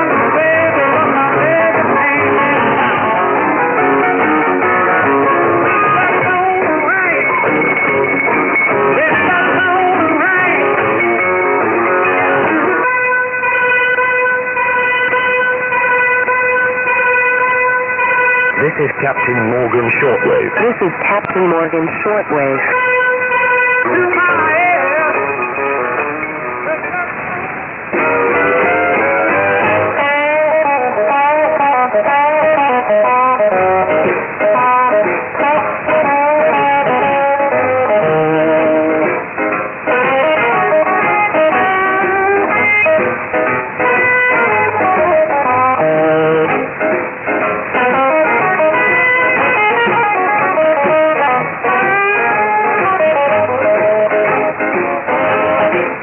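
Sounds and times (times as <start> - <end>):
steady held tone: 0.0 - 56.0
thin guitar music on radio: 0.0 - 56.0.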